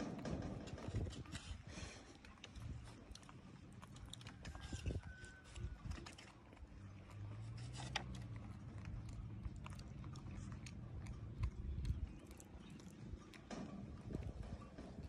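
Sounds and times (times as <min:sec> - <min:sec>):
low steady hum: 0:00.0 - 0:15.0
monkey chewing and lip smacking: 0:00.2 - 0:15.0.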